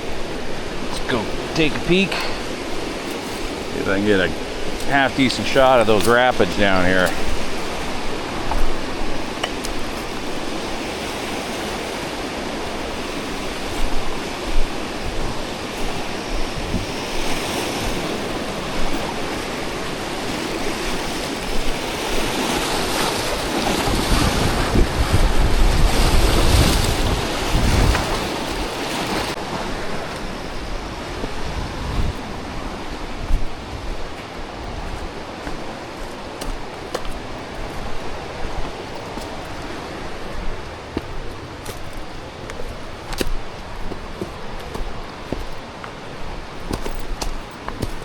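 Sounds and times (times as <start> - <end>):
rushing whitewater rapids: 0.0 - 48.0
wind gusting on microphone: 0.0 - 48.0.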